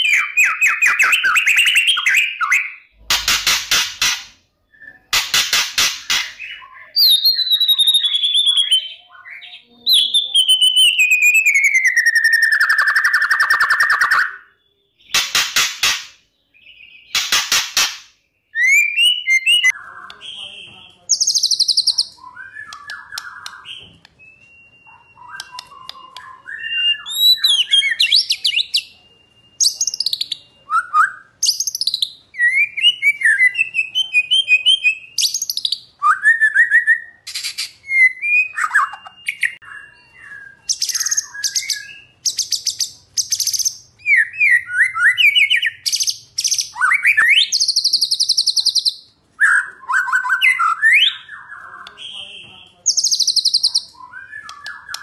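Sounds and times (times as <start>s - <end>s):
songbird singing: 0.0s - 17.2s, 18.2s - 55.0s.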